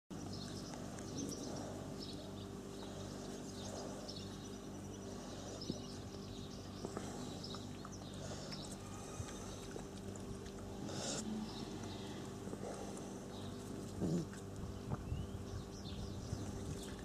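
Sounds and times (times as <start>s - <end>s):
small birds chirping: 0.1s - 17.0s
steady low hum: 0.1s - 17.0s.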